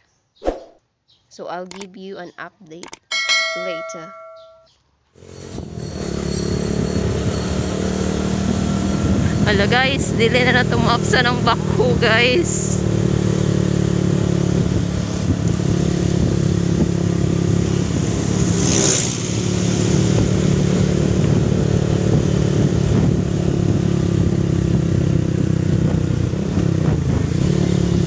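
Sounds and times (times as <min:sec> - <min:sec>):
motorcycle engine running: 0:05.2 - 0:28.0
wind rumble on microphone: 0:05.5 - 0:28.0.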